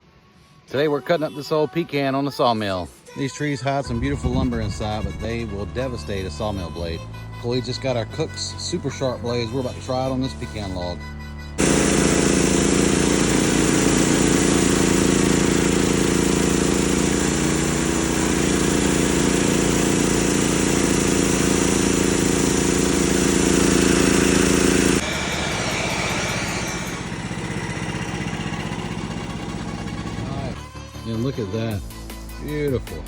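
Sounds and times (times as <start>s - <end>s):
band sawmill engine cutting log: 3.8s - 11.0s, 11.6s - 31.8s.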